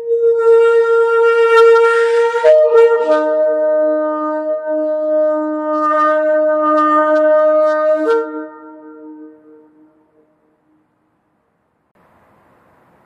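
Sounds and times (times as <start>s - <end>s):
shofar blast: 0.0s - 10.8s.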